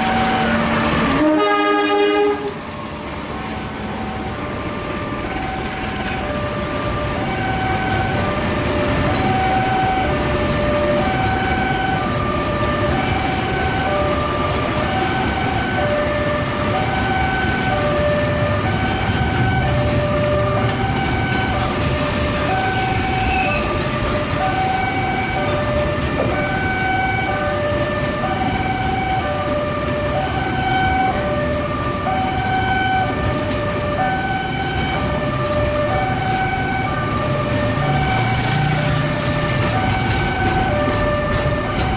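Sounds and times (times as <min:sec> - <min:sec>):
freight train rumbling past: 0:00.0 - 0:41.9
level crossing alarm two-tone signal: 0:05.2 - 0:41.9.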